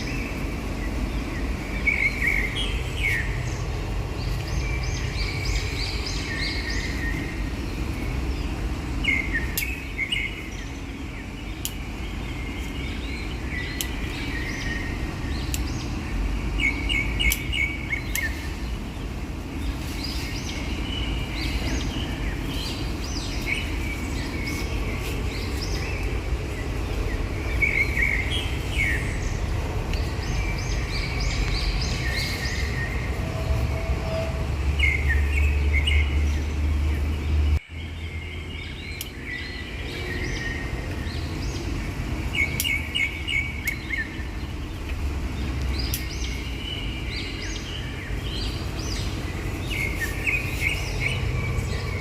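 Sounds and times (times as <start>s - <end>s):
small birds chirping: 0.0s - 52.0s
steady low rumble: 0.0s - 52.0s.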